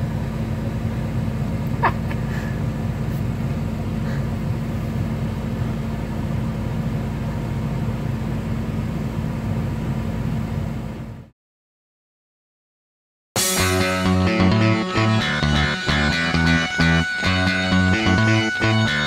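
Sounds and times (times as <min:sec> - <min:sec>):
excavator diesel engine running: 0:00.0 - 0:11.3, 0:13.4 - 0:19.0.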